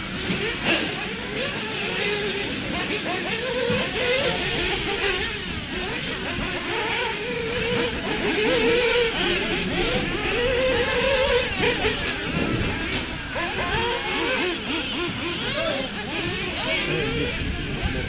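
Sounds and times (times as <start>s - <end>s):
rc car motors racing: 0.0s - 18.0s.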